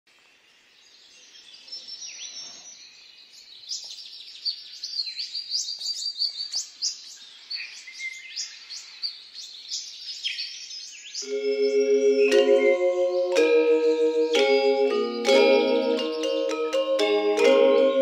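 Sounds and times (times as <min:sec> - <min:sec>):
birds chirping and singing: 0:01.0 - 0:18.0.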